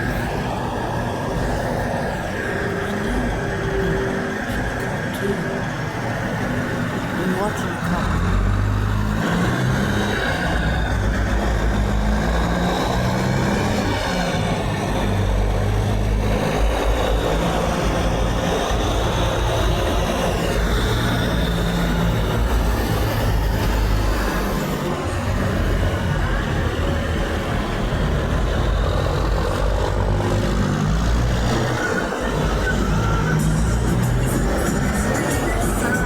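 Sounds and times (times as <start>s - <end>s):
truck engines running in traffic: 0.0s - 36.0s.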